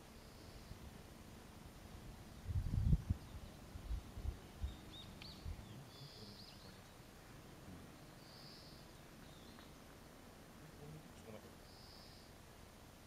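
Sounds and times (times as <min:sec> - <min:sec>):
faint outdoor background: 0:00.0 - 0:13.0
wild birds chirping: 0:00.0 - 0:13.0.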